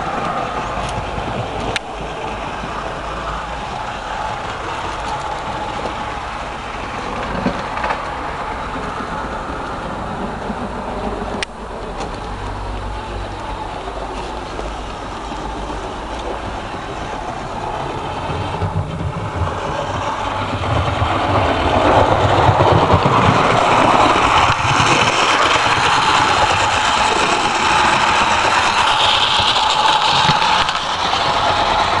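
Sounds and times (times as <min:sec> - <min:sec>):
model train running on track: 0:00.0 - 0:32.0.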